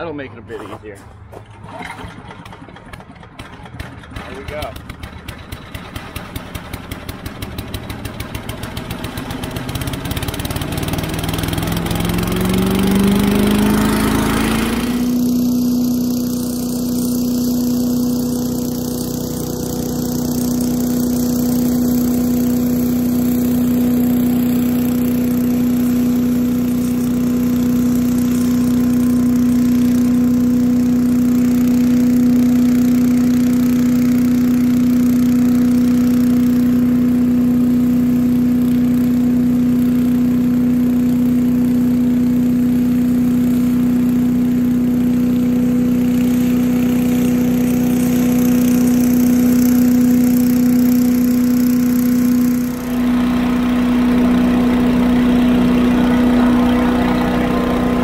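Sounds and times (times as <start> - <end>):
leaf blower engine revving: 1.6 - 58.0.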